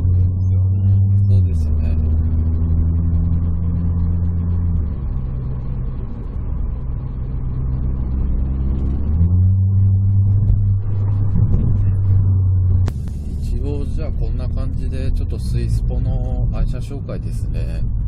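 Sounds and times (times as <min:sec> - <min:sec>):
car engine drone inside cabin: 0:00.0 - 0:18.0.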